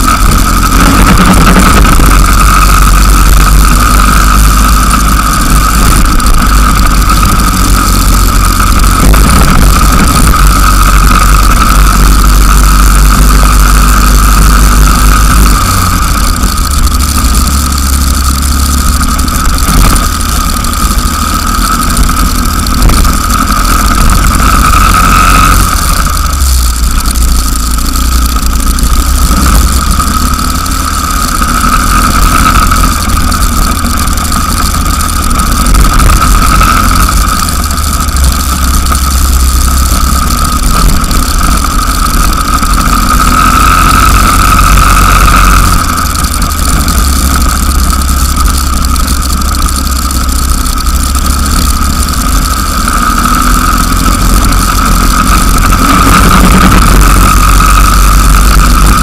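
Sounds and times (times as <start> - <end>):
go-kart engine drone: 0.0 - 59.0
wind rumble on microphone: 0.0 - 59.0.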